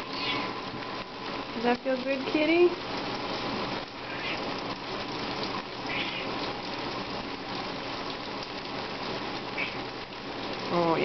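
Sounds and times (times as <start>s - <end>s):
shower spray splashing: 0.0s - 11.0s.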